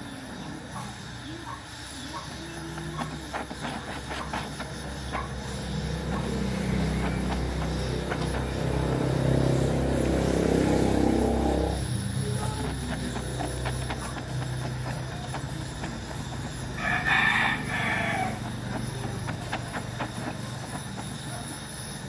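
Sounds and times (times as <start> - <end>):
gas welding torch flame: 0.0 - 22.0
low rumbling hum: 3.2 - 21.2.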